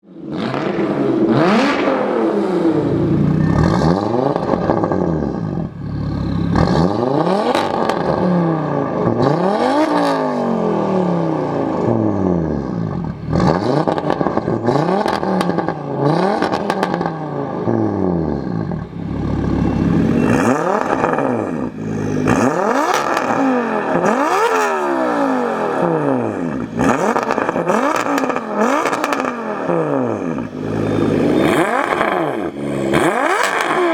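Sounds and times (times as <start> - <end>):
car engine revving: 0.2 - 33.9.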